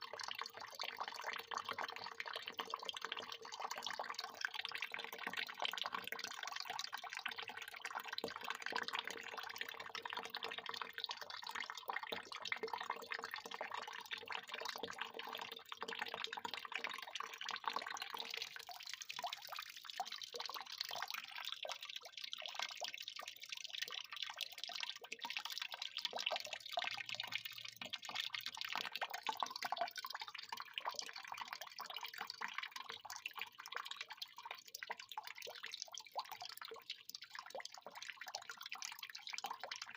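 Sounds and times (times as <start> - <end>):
water pouring and splashing: 0.0 - 39.9.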